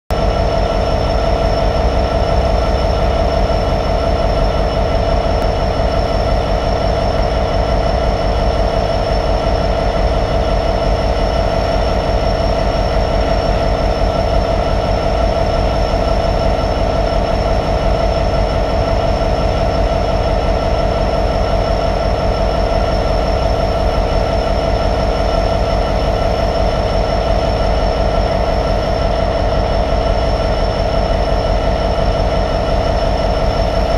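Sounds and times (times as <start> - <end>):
diesel locomotive idling: 0.1 - 33.9
high whine: 0.1 - 33.9.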